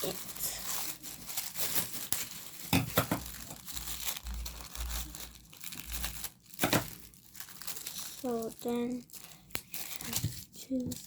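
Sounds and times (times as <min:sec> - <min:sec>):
plastic bag and paper crinkling: 0:00.0 - 0:11.0.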